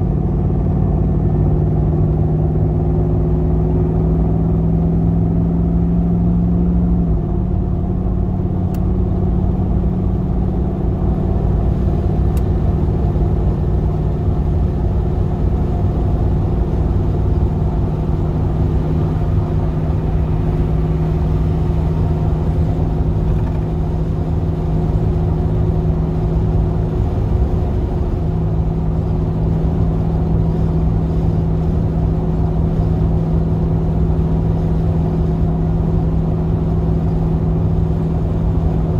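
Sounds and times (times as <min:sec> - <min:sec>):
van engine cruising: 0:00.0 - 0:38.9.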